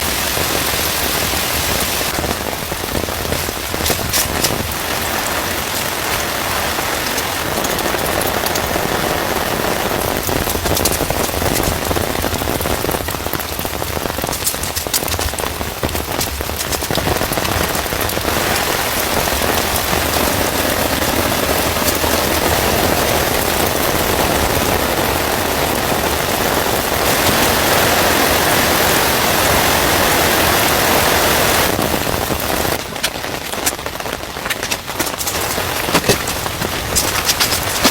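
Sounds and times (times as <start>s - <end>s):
heavy rain pouring: 0.0s - 37.9s
raindrops tapping close by: 0.0s - 37.9s.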